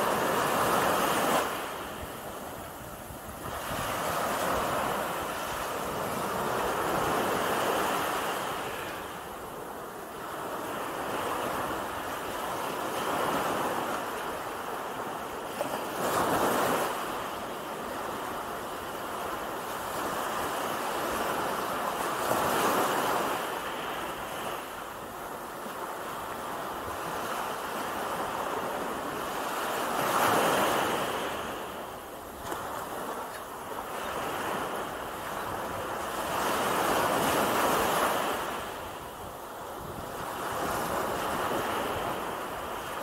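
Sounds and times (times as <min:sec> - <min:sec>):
small waves breaking on sand: 0:00.0 - 0:43.0.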